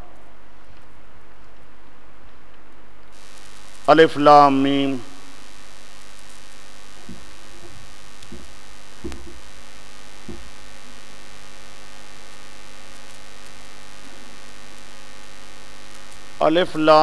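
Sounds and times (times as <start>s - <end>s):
electrical mains hum: 3.0s - 17.0s.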